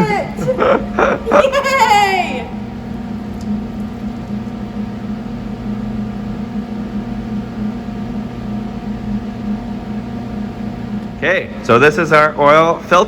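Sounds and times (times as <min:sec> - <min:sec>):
mechanical hum with low drone: 0:00.0 - 0:13.0.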